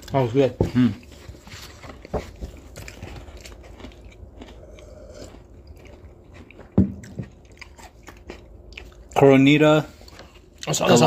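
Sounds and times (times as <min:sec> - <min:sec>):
chewing and mouth noises: 0:00.0 - 0:11.0.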